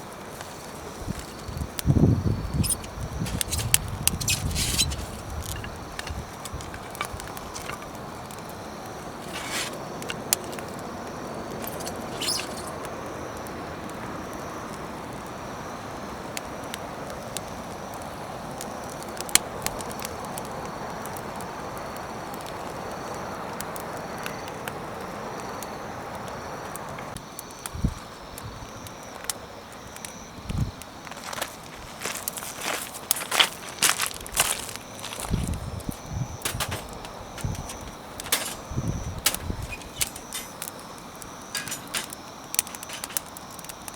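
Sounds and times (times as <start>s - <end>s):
campfire hissing and crackling: 0.0s - 43.9s.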